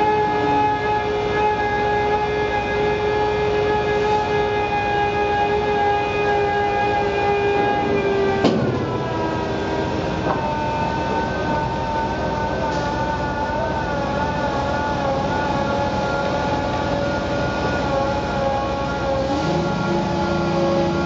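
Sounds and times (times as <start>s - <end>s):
drilling rig engine whine: 0.0s - 21.0s.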